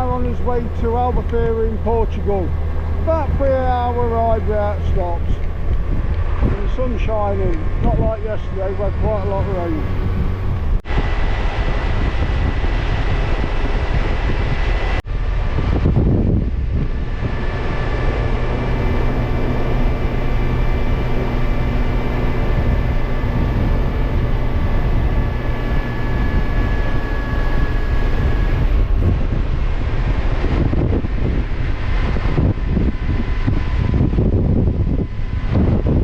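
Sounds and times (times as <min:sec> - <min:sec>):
motorcycle engine and wind drone: 0:00.0 - 0:36.0
whining tones: 0:00.0 - 0:36.0.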